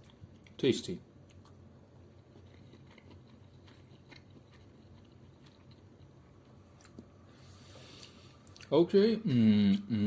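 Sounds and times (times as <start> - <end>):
person chewing quietly: 0.0 - 0.6, 1.2 - 10.0.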